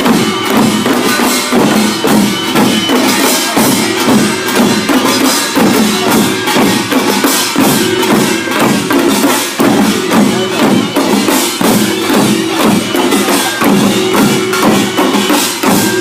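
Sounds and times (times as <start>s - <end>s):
drums beating fast rhythm: 0.0s - 16.0s
gongs clanging: 0.0s - 16.0s.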